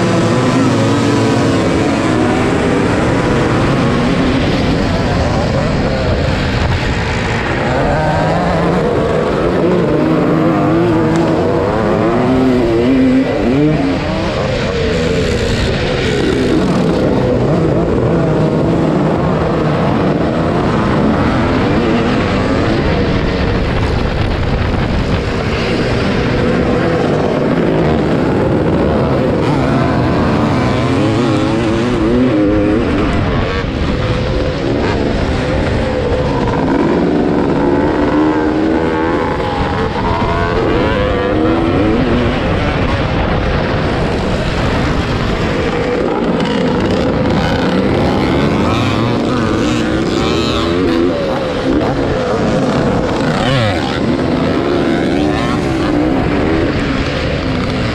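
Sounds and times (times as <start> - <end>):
motocross engine revving: 0.0 - 57.9
other dirt bikes running: 0.0 - 57.9.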